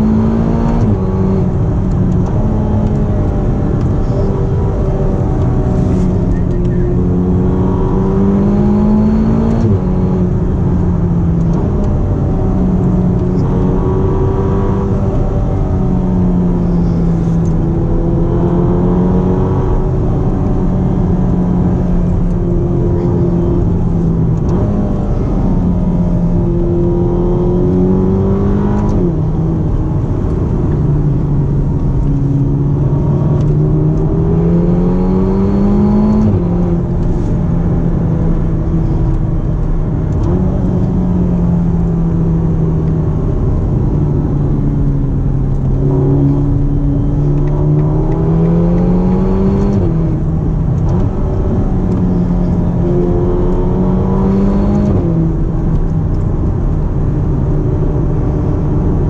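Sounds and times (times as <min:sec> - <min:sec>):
car engine shifting gears: 0:00.0 - 0:59.0
road and tyre noise: 0:00.0 - 0:59.0.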